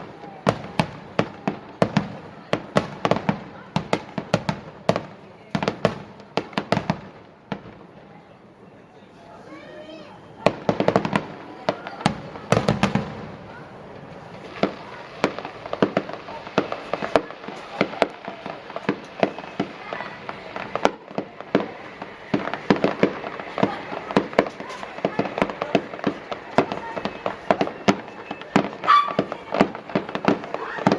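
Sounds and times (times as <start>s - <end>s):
heavy fireworks booms: 0.0s - 8.1s, 9.8s - 30.9s
fireworks bursting: 0.0s - 8.2s, 9.5s - 30.9s
fireworks crackle: 0.0s - 8.2s, 9.5s - 30.9s.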